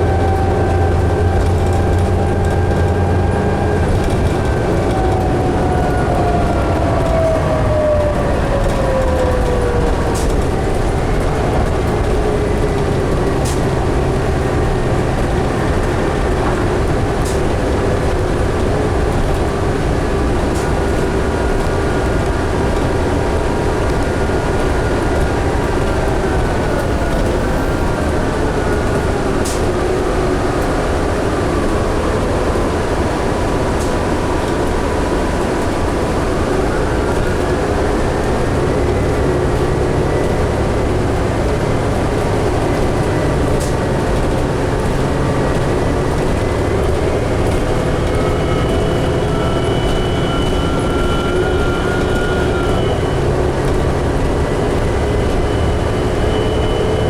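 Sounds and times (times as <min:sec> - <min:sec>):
bus engine and road rumble: 0:00.0 - 0:57.0
drivetrain whine: 0:00.0 - 0:57.0.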